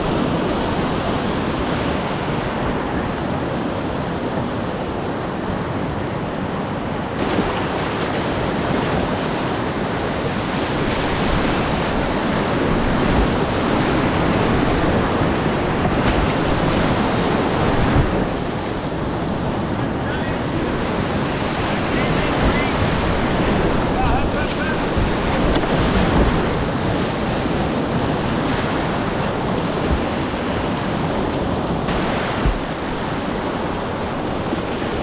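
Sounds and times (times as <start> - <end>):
river rapids rushing: 0.0 - 35.0.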